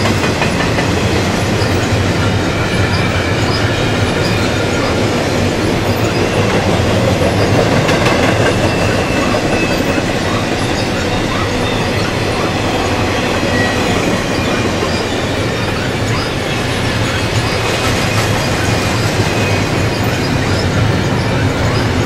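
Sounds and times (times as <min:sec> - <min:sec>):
high wheel squeals: 0:00.0 - 0:22.0
steel wheels rumbling on rail: 0:00.0 - 0:22.0.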